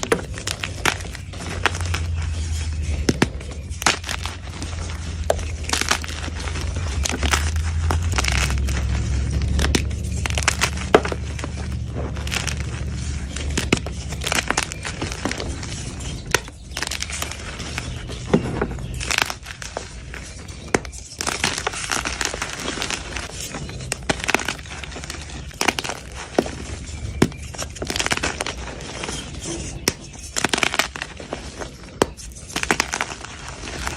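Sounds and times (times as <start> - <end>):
low hum: 0.0 - 29.8
chalk being crushed: 0.0 - 33.9.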